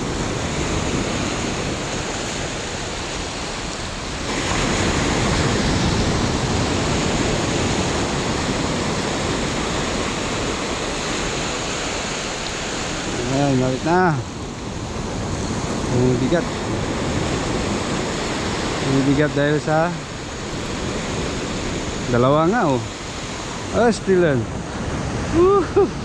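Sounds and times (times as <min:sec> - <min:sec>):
ocean surf breaking on sand: 0:00.0 - 0:26.0.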